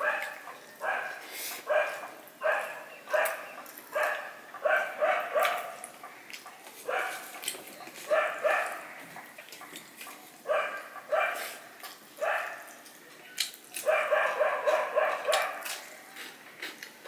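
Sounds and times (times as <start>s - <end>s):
dogs barking: 0.0s - 12.8s, 13.8s - 15.8s.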